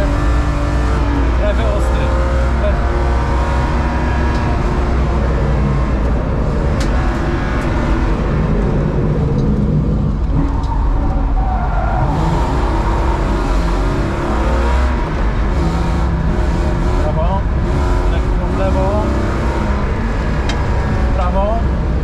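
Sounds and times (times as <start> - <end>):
car engine revving: 0.0 - 22.0
road and tyre noise: 0.0 - 22.0.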